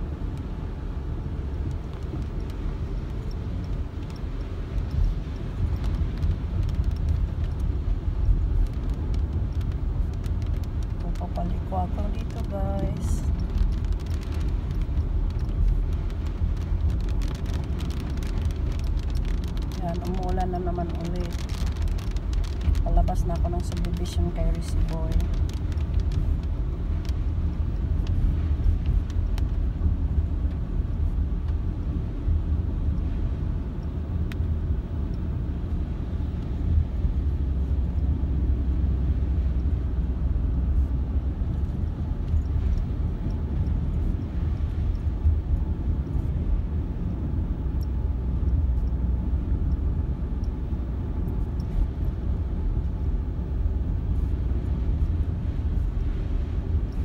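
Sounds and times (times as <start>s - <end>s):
car driving on wet road: 0.0s - 57.0s.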